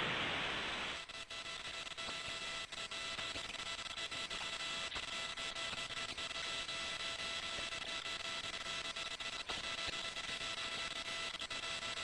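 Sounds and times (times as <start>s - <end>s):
audio line hiss: 0.0s - 12.0s
faint steady tones: 0.0s - 12.0s.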